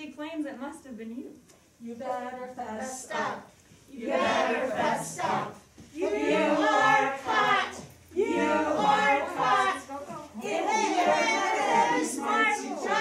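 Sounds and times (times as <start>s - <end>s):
group of people singing: 1.8s - 13.0s.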